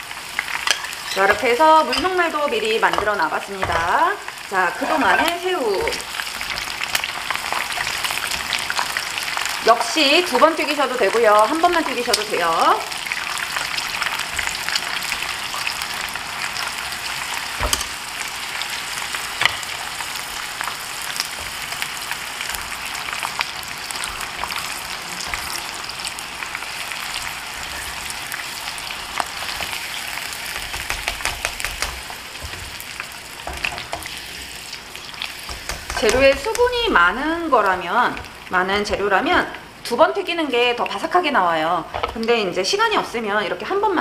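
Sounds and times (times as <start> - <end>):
shrimp deep-frying in oil: 0.0 - 44.0.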